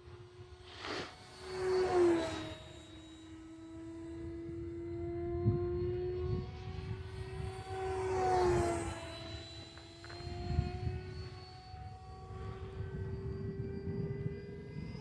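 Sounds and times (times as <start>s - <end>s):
model jet whining in flight: 0.0s - 15.0s.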